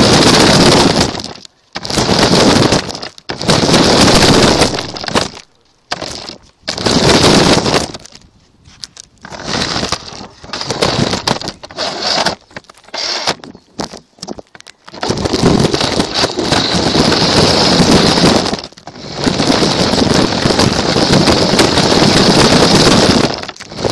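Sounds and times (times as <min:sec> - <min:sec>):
toy car rattling over ground: 0:00.0 - 0:23.9.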